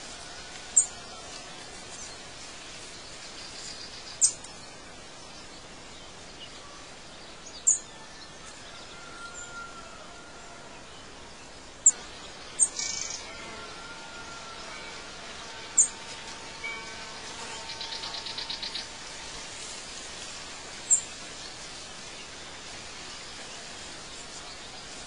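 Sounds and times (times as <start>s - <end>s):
birds chirping: 0.0s - 9.6s, 10.7s - 25.0s
outdoor ambience hiss: 0.0s - 25.0s.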